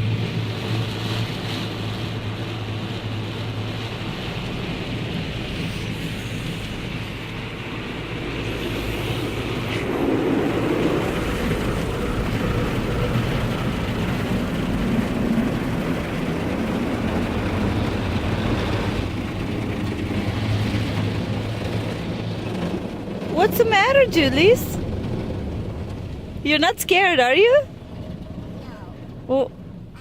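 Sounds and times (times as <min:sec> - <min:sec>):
car wash machinery: 0:00.0 - 0:30.0.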